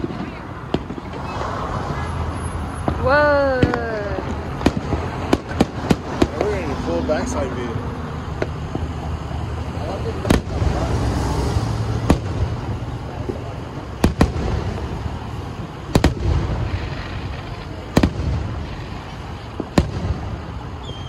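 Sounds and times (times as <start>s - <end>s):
fireworks booming: 0.0s - 7.5s, 8.2s - 21.0s.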